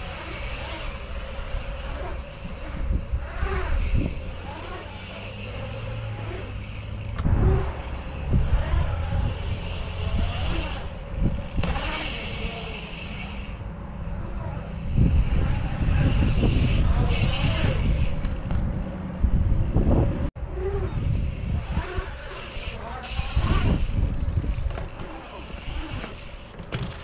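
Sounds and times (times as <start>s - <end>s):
bike tyres rolling on concrete: 0.0s - 27.0s.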